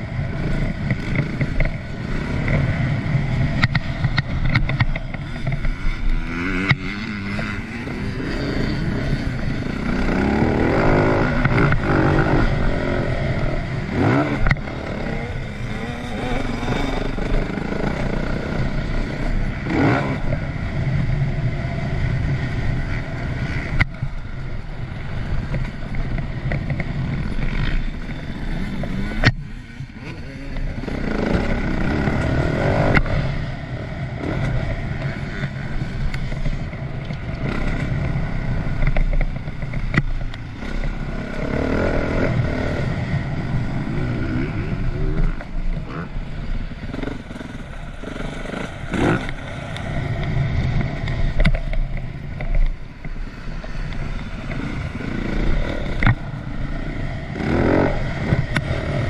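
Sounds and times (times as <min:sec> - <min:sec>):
motocross bike engine revving: 0:00.0 - 0:36.8, 0:37.4 - 0:51.8, 0:53.3 - 0:59.0.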